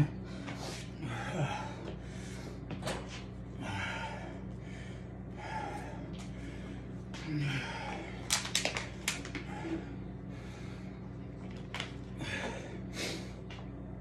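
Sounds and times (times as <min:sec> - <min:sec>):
man breathing heavily: 0:00.0 - 0:08.3, 0:09.3 - 0:11.4, 0:12.0 - 0:14.0
faint steady hum: 0:00.0 - 0:14.0.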